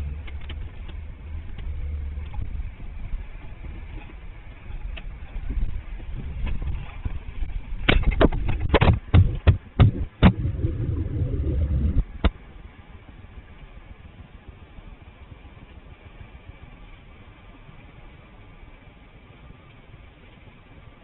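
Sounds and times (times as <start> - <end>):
low rumble: 0.0 - 17.4.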